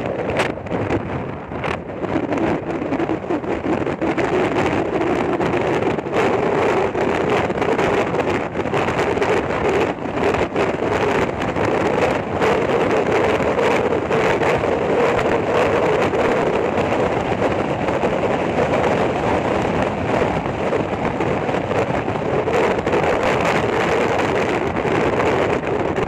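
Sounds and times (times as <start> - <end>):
road and wind noise in car: 0.0 - 26.0
wind buffeting microphone: 0.0 - 26.0.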